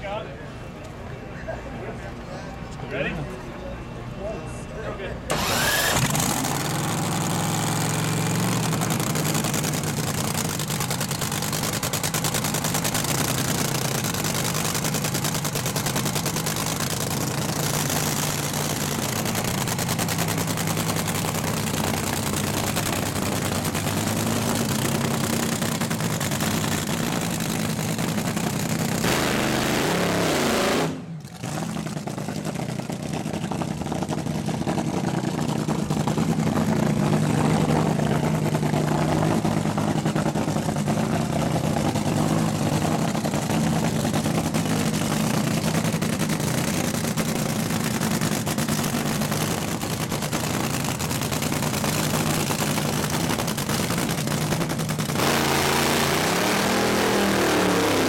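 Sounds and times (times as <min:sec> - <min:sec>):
dragster engine crackling rattle: 0:05.3 - 0:29.7, 0:31.2 - 0:56.4.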